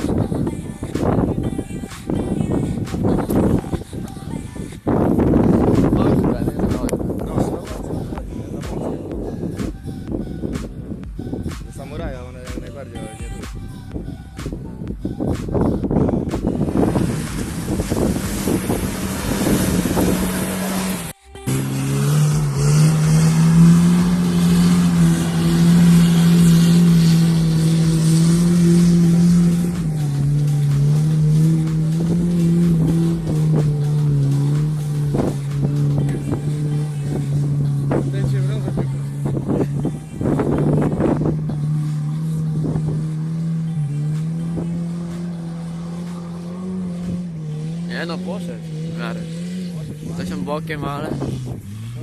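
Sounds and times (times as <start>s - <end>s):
off-road vehicle engine running hard: 0.0s - 52.0s.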